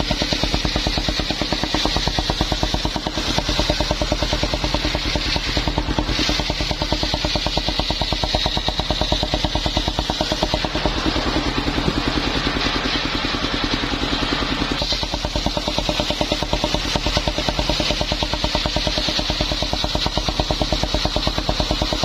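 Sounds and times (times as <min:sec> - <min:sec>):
sawmill engine pulsing: 0:00.0 - 0:22.0.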